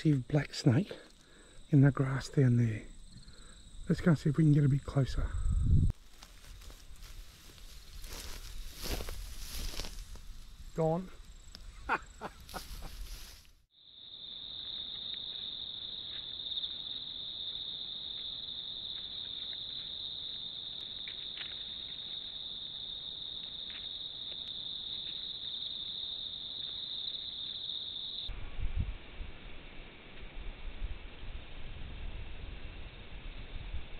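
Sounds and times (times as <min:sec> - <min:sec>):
night insects chirping: 0:00.0 - 0:33.9.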